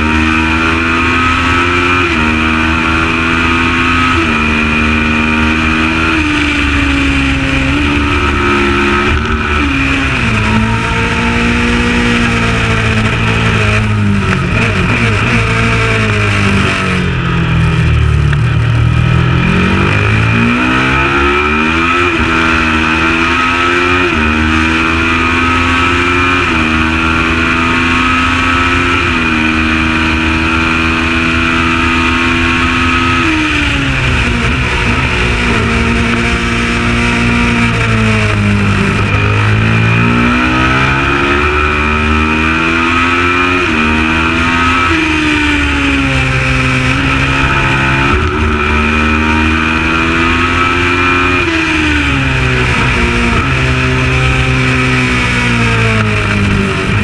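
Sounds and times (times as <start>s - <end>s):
race bike engine revving: 0.0s - 57.0s.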